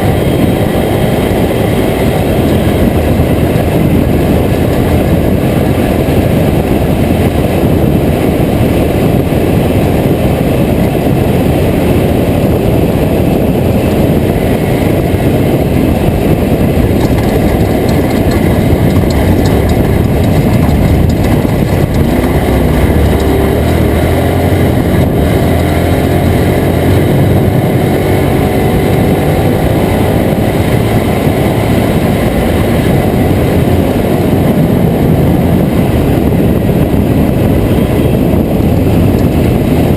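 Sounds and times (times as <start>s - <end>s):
truck engine rumble: 0.0s - 39.9s.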